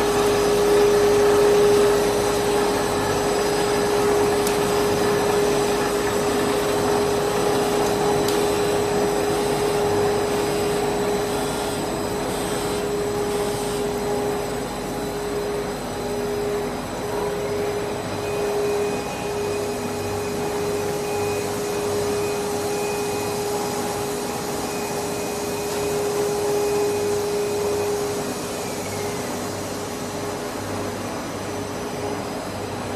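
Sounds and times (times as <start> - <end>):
machine whir with hum: 0.0 - 32.9.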